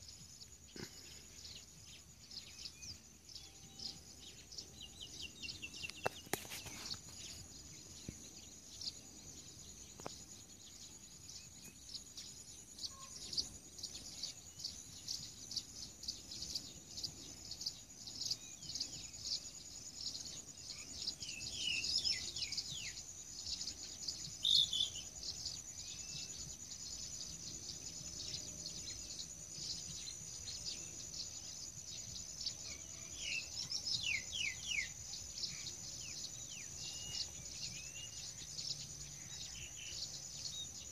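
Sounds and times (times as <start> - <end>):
birds chirping: 0.0 - 40.9
high-pitched insect trill: 0.0 - 40.9.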